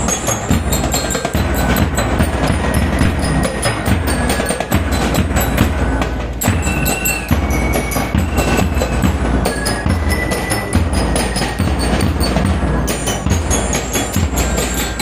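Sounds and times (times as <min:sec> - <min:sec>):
bell lyres ringing: 0:00.0 - 0:15.0
snare and bass drums: 0:00.0 - 0:15.0.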